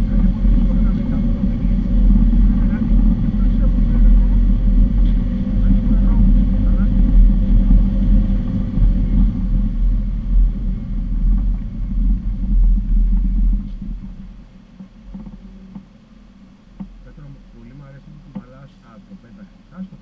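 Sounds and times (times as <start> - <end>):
off-road vehicle on gravel: 0.0 - 20.0.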